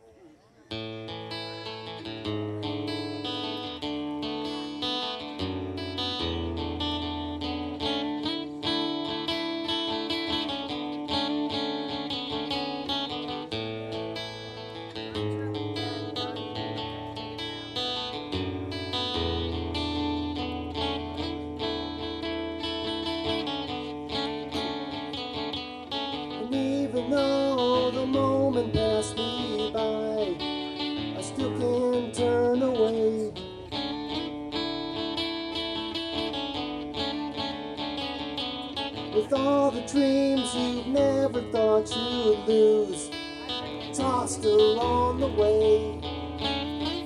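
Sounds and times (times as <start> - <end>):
acoustic guitar strumming: 0.7 - 47.0.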